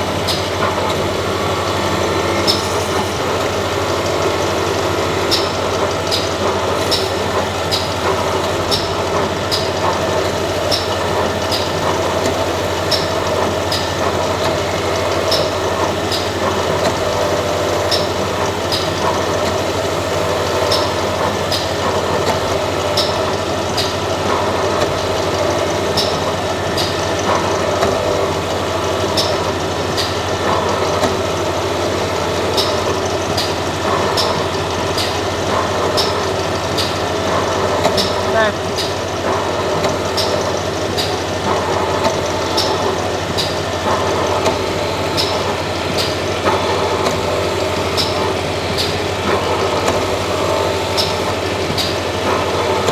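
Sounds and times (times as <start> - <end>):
machine humming: 0.0 - 52.8.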